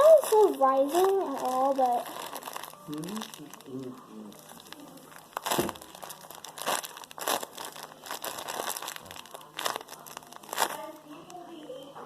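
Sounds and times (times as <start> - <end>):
squishy being squeezed: 0.0 - 11.0
plastic bag crinkling: 0.0 - 11.9.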